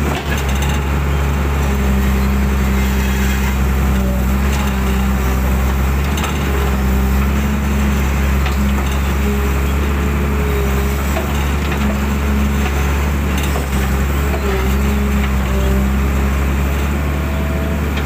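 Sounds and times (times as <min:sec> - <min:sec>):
diesel engine under load: 0:00.0 - 0:18.0
hydraulic whine: 0:00.0 - 0:18.0.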